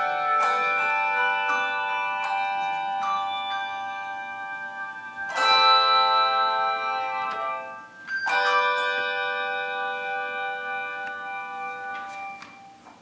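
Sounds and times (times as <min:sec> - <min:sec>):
handbell choir ringing: 0:00.0 - 0:12.9.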